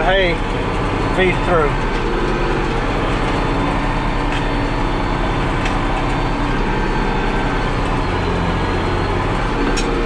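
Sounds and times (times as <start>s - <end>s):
tractor engine running under load: 0.0s - 10.0s.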